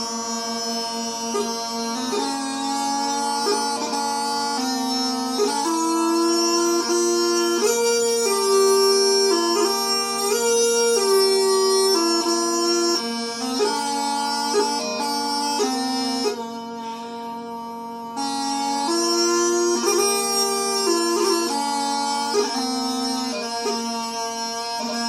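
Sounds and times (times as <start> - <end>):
bagpipe chanter playing slow tune: 0.0 - 25.0
bagpipe drones: 0.0 - 25.0.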